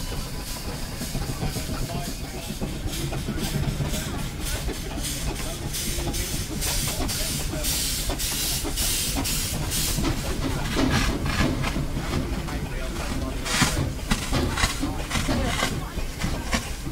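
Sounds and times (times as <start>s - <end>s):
steam engine chuffing: 0.0s - 16.9s.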